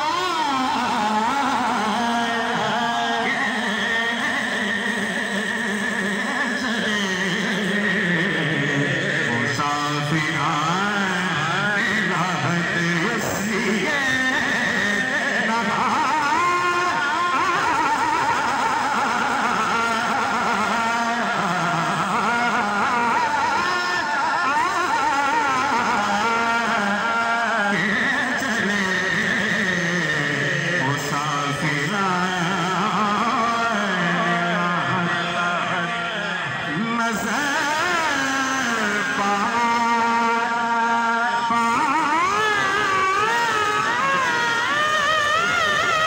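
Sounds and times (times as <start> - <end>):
man singing into a microphone: 0.0 - 46.0.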